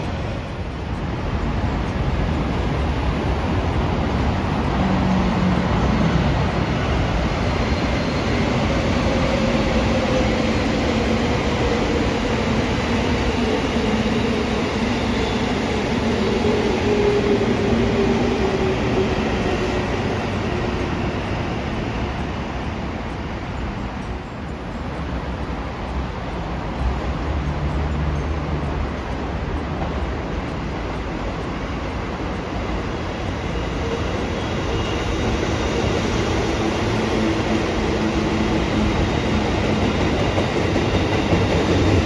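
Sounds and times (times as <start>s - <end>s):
train rumbling past: 0.0s - 42.0s.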